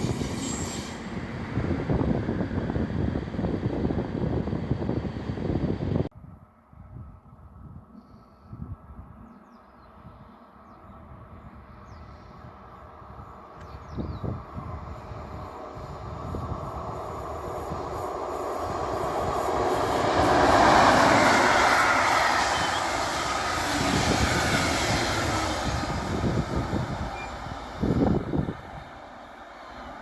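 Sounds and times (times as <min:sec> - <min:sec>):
train passing by: 0:00.0 - 0:06.1, 0:10.8 - 0:30.0.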